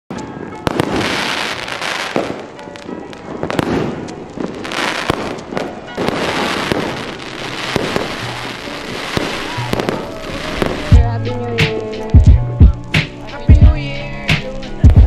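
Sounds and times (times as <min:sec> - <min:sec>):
fireworks bangs: 0:00.1 - 0:13.8
fireworks crackling: 0:00.1 - 0:15.0.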